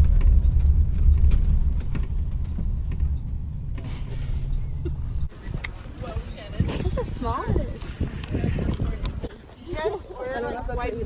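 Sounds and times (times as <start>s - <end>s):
faint rattles: 0.0s - 9.2s
bus road rumble from inside: 0.0s - 11.0s.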